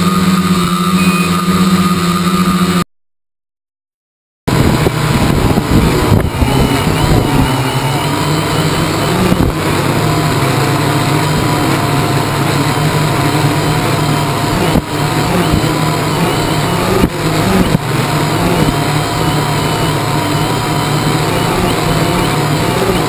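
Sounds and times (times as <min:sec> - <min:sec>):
drone motors humming and whining: 0:00.0 - 0:02.8, 0:04.5 - 0:23.0
noisy rush: 0:04.5 - 0:23.0.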